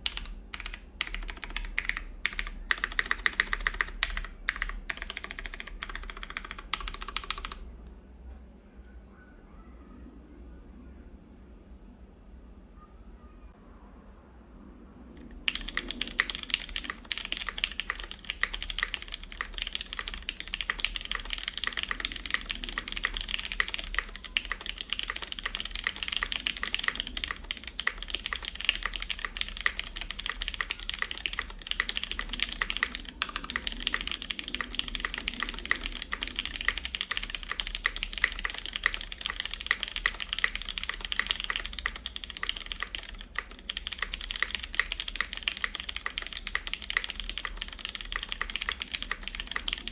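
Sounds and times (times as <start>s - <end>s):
fast typing on mechanical keyboard: 0.0s - 7.7s, 15.2s - 49.9s.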